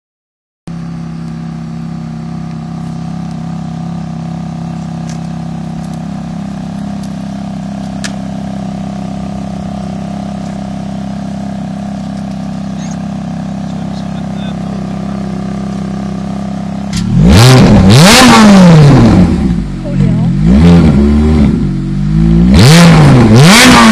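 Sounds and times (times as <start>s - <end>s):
car engine running steadily: 0.7s - 23.9s.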